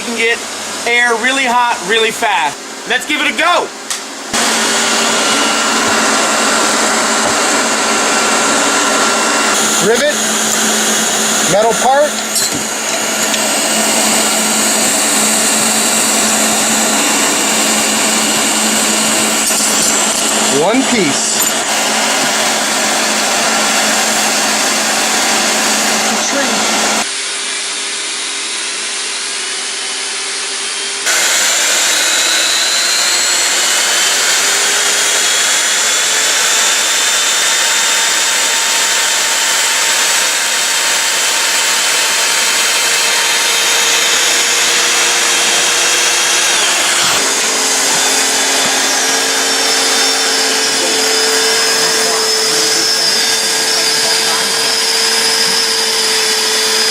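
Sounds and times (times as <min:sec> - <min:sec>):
hot-air tool blowing with motor whine: 0:00.0 - 0:56.9.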